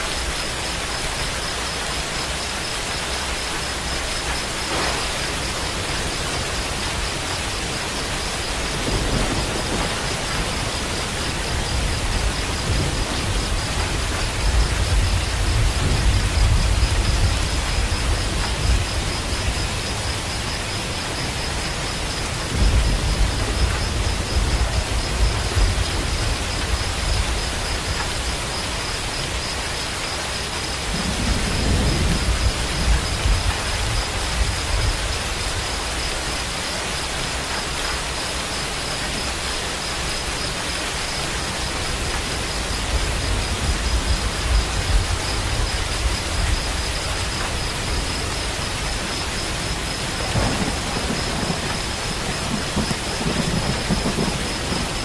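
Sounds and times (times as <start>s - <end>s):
heavy rain: 0.0s - 55.0s
thunder rumbling: 3.1s - 38.4s, 41.2s - 55.0s.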